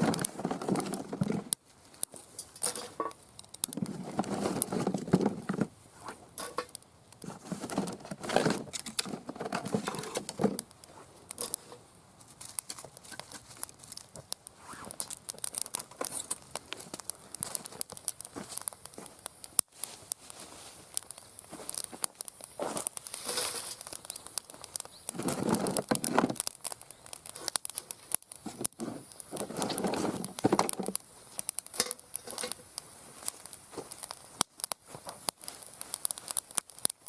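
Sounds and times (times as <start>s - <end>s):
kindling rustling and crinkling: 0.0s - 37.0s
sharp clicks and crackles: 0.0s - 37.0s.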